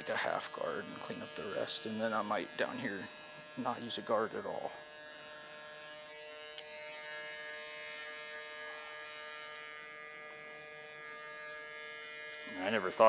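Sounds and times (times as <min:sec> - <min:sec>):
hair clippers buzzing: 0:00.0 - 0:13.0.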